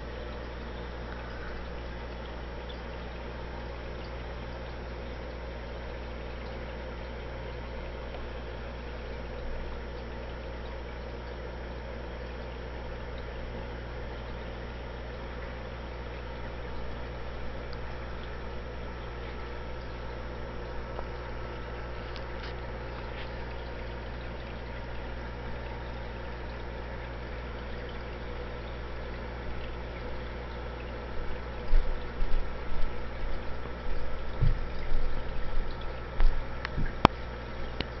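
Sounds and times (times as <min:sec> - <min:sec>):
aquarium pump humming: 0:00.0 - 0:38.0
water trickling: 0:00.0 - 0:38.0.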